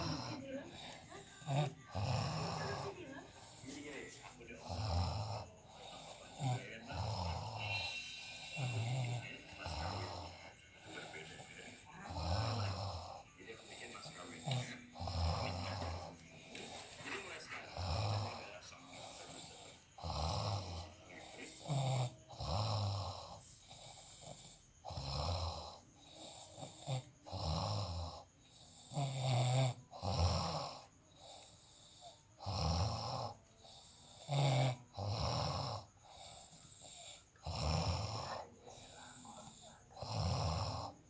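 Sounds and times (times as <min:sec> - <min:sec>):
person snoring deeply: 0:00.0 - 0:02.9, 0:04.6 - 0:13.7, 0:14.4 - 0:16.9, 0:17.6 - 0:38.5, 0:39.4 - 0:41.0.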